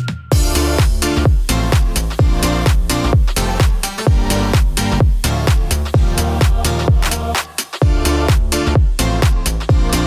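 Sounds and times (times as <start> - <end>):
electronic dance music: 0.0 - 10.0
deep kick drums: 0.3 - 10.0.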